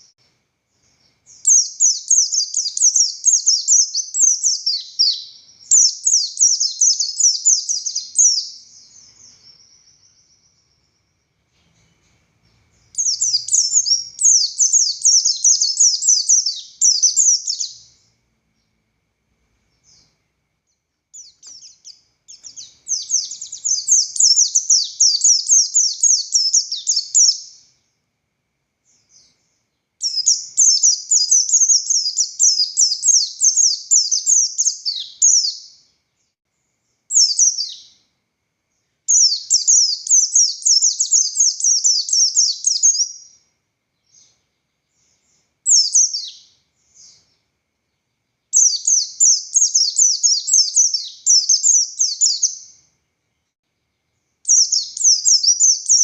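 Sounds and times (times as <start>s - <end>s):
bird singing fast twittering phrases: 0.7s - 18.7s, 19.8s - 27.8s, 28.9s - 36.4s, 37.1s - 38.0s, 39.1s - 43.4s, 44.0s - 47.4s, 48.5s - 52.9s, 54.4s - 56.0s.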